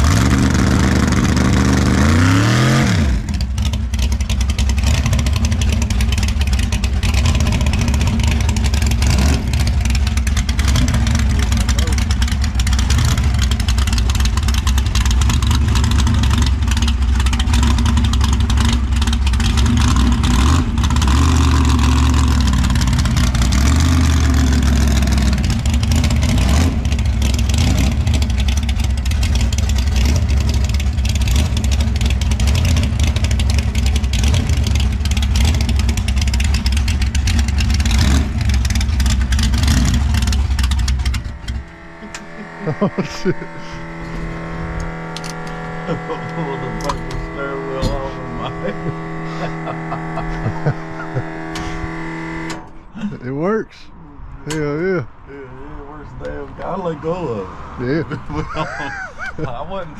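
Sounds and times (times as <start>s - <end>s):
truck engine revving loudly: 0.0s - 53.6s, 54.5s - 59.9s.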